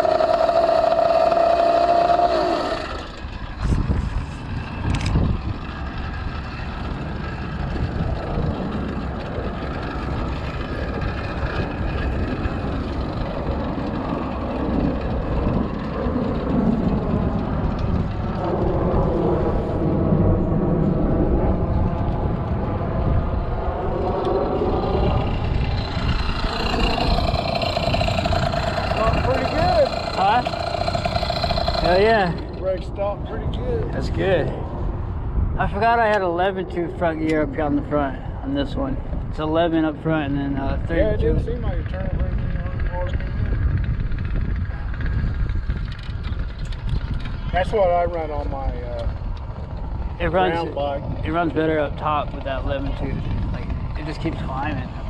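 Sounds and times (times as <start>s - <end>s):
two-stroke engine running: 0.0s - 19.6s, 21.8s - 33.0s, 40.8s - 55.0s
wind on microphone: 0.0s - 55.0s.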